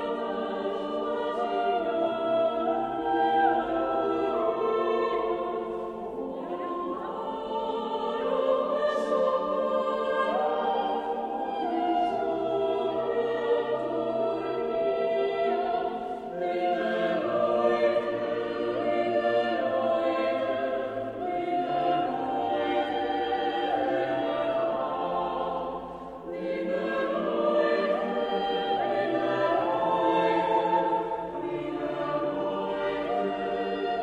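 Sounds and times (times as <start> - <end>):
choir singing a cappella: 0.0 - 34.0.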